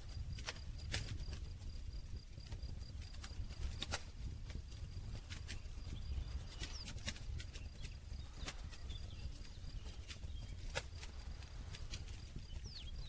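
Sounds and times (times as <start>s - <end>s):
campfire crackling: 0.0s - 13.0s
low rumble of fire: 0.0s - 13.0s.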